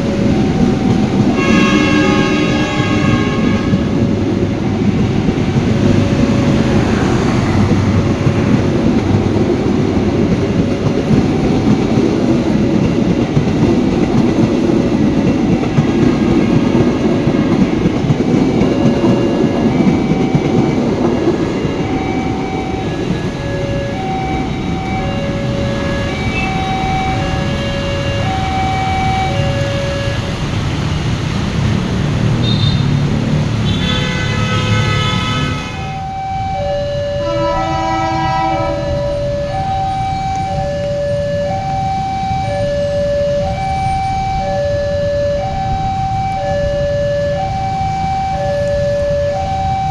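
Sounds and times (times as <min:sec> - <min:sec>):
train wagons rumbling: 0:00.0 - 0:49.9.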